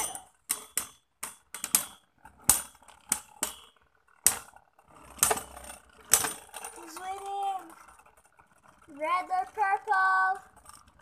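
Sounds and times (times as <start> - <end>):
spinning tops clacking: 0.0 - 11.0.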